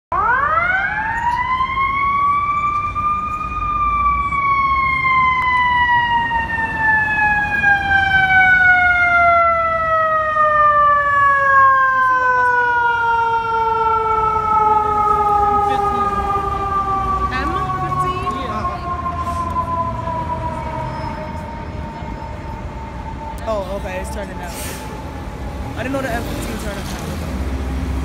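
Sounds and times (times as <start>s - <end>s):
low traffic rumble: 0.1s - 28.0s.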